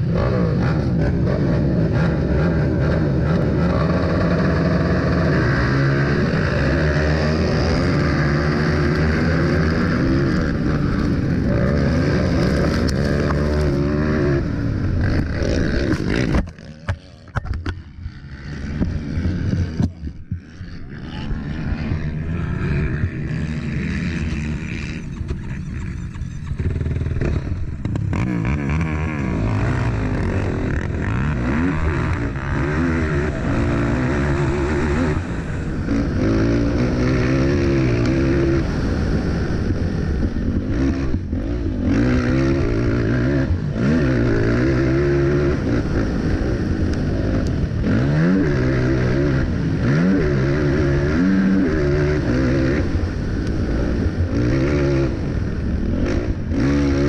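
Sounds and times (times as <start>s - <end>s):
quad engines revving hard: 0.0s - 57.0s.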